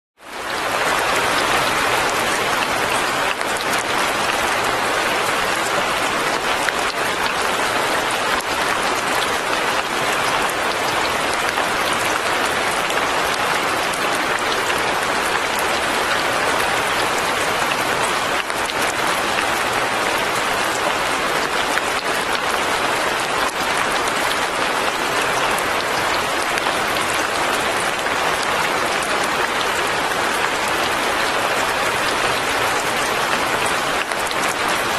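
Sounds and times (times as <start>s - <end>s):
steady light rain: 0.2s - 34.9s.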